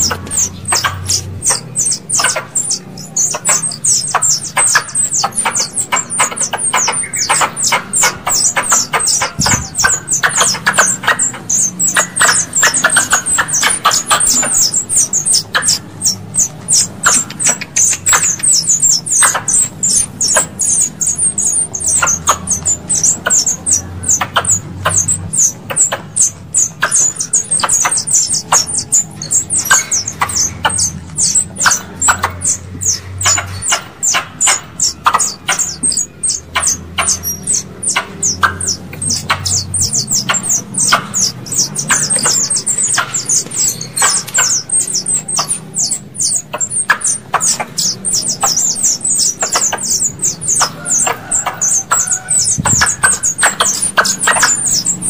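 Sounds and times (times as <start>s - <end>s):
high-pitched squeaky chirps: 0.0s - 55.0s.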